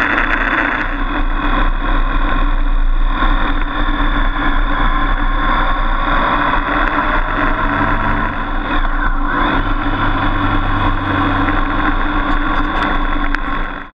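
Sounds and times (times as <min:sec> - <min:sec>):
motorcycle engine running: 0:00.0 - 0:13.9
wind rushing: 0:01.5 - 0:13.3.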